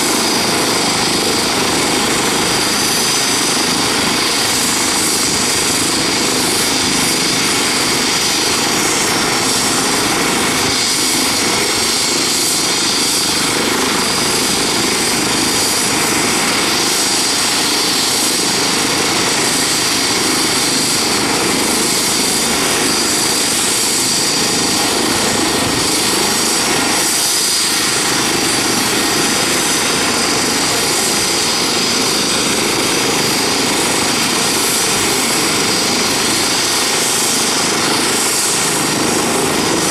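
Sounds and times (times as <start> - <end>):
helicopter rotor noise: 0.0 - 39.9
high turbine whine: 0.0 - 39.9.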